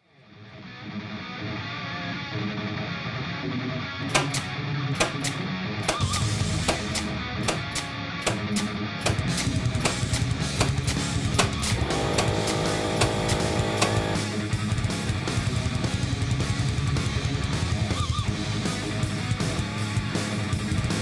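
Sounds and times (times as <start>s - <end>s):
rock guitar music: 0.1s - 21.0s.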